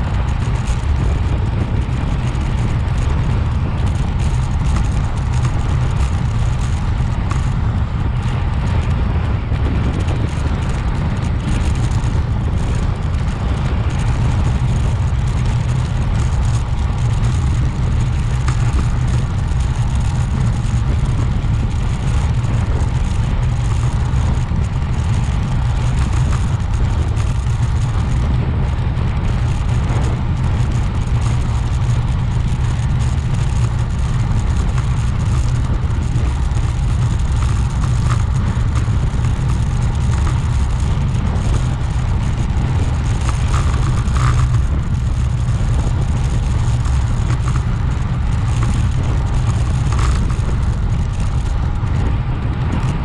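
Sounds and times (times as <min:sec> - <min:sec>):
wind rumbling on microphone: 0:00.0 - 0:53.0.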